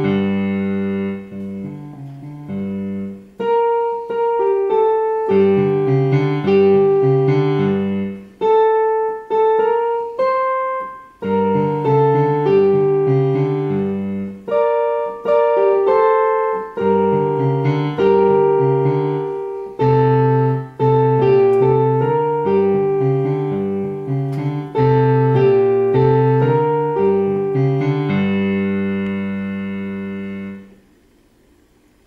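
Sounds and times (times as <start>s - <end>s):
boogie-woogie piano: 0.0s - 30.8s.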